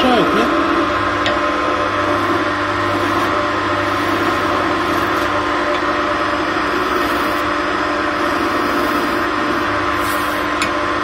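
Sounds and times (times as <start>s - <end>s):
chisel cutting spinning wood: 0.0s - 11.0s
wood lathe humming: 0.0s - 11.0s.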